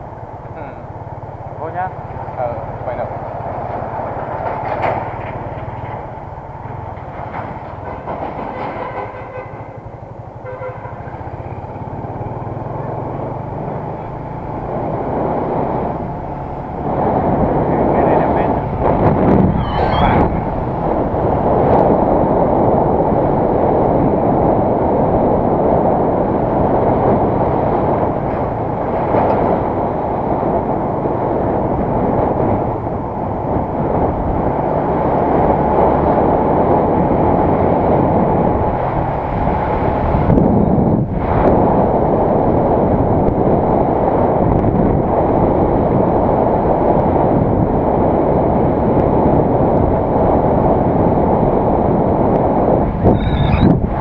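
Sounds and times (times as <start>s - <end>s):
motorbike engine: 0.0s - 54.0s
road noise: 0.0s - 54.0s
wind rushing on microphone: 0.0s - 54.0s.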